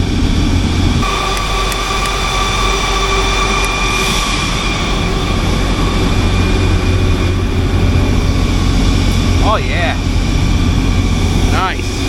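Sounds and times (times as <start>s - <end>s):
generator engine drone: 0.0s - 12.0s
whining tones: 0.0s - 12.0s.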